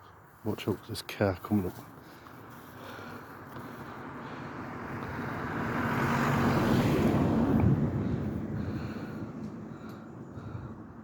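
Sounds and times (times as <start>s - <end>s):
car approaching: 0.6s - 11.0s.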